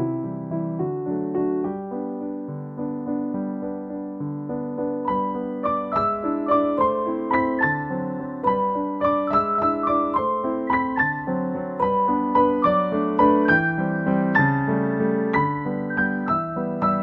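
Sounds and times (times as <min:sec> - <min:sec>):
keyboard playing gentle melody: 0:00.0 - 0:17.0.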